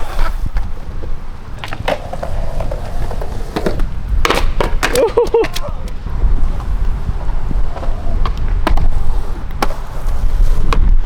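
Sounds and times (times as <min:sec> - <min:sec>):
skateboard clacking on ground: 0:00.0 - 0:11.0
skateboard wheels rumbling: 0:00.0 - 0:11.0.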